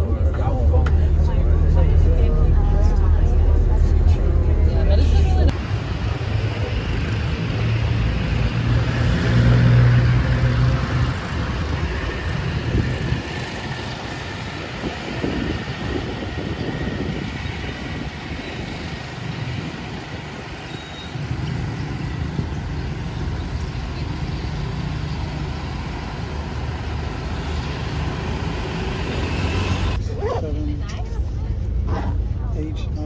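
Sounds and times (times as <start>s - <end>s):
bus engine running: 0.0s - 33.0s
road noise: 0.0s - 33.0s.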